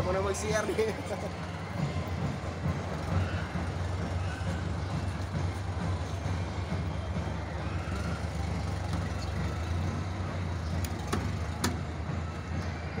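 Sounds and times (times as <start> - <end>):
engine idling with low rumble: 0.0 - 13.0.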